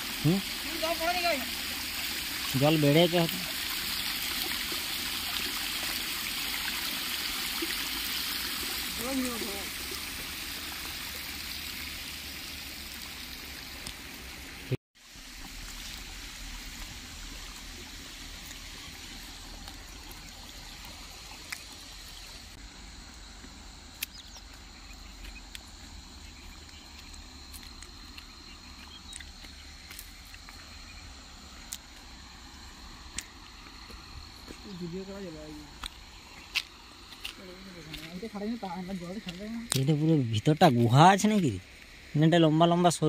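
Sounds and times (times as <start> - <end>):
insect drone: 0.0 - 43.0
outdoor hiss: 0.0 - 43.0
water trickling over steps: 0.0 - 43.0.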